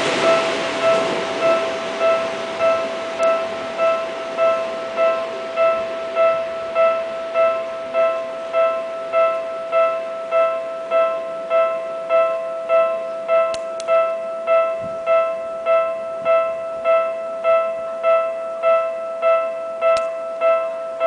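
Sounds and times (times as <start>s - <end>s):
electronic ding: 0.0s - 21.0s.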